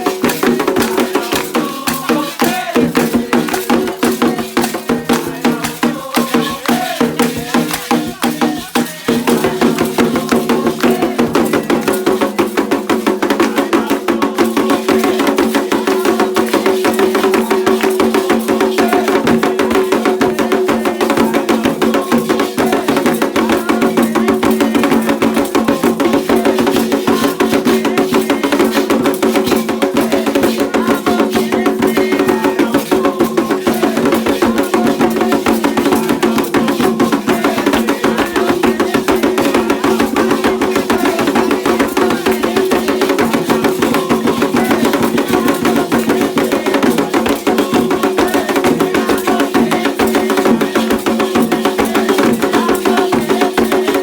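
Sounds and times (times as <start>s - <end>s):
fast ceremonial drumming: 0.0s - 54.0s.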